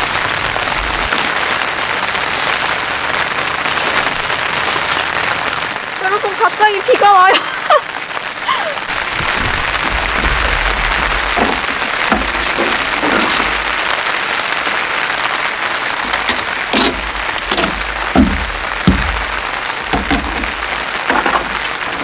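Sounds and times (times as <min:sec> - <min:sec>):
tent fabric and poles rustling: 0:00.0 - 0:05.8, 0:08.9 - 0:22.0
rain pattering on wood and fabric: 0:00.0 - 0:22.0.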